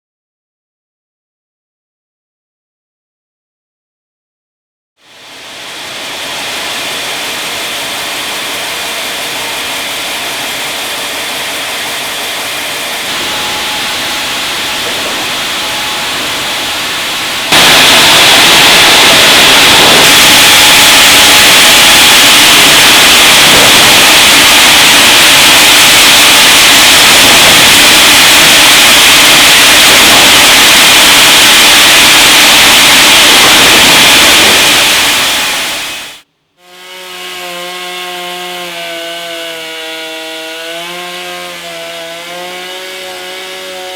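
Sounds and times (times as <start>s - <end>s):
sawmill machinery running: 5.1s - 43.9s.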